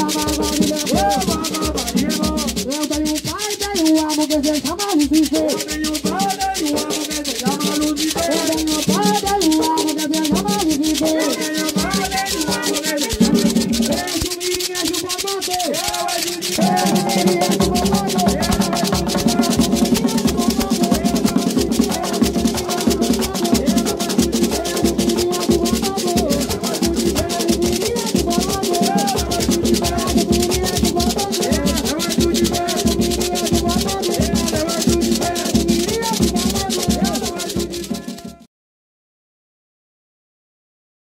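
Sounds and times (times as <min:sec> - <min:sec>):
hand drums playing: 0:00.0 - 0:38.5
man singing into a microphone: 0:00.0 - 0:38.5
rattling shakers: 0:00.0 - 0:38.5.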